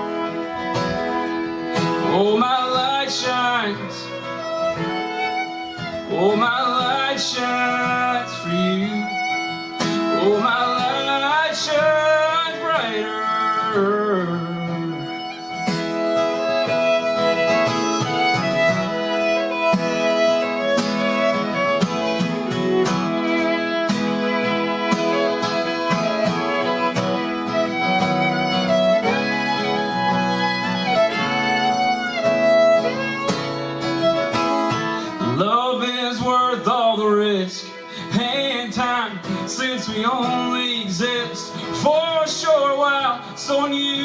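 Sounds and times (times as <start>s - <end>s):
fiddle melody with sliding notes: 0.0s - 44.0s
strummed acoustic guitar: 0.0s - 44.0s.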